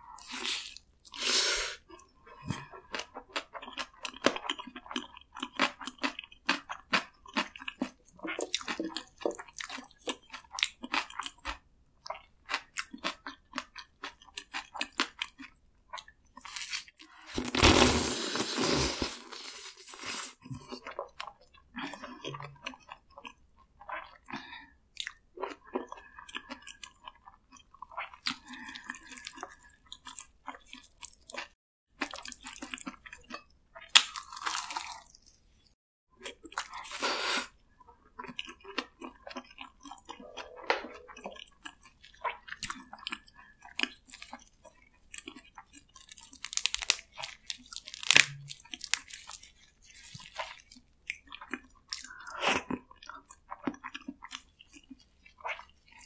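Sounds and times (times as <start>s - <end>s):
close chewing and crunching: 0.0s - 56.0s.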